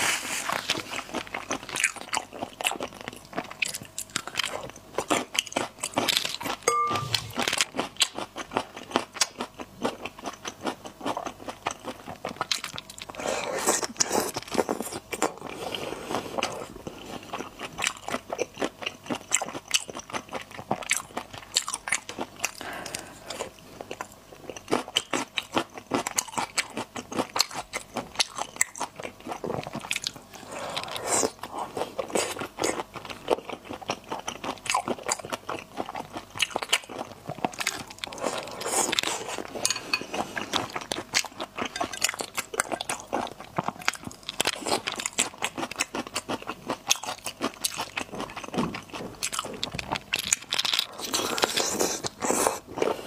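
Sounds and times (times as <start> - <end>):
chewing and crunching shrimp: 0.2 - 53.0.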